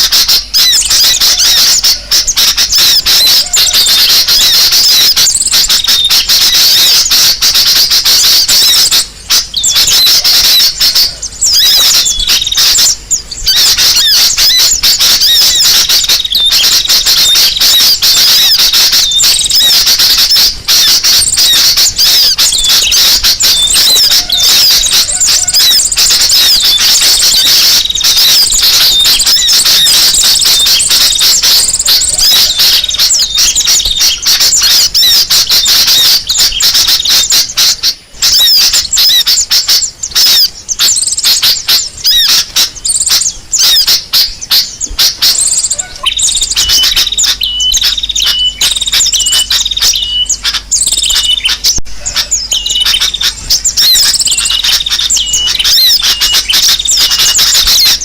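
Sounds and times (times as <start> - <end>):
chorus of songbirds chirping: 0.0 - 58.0.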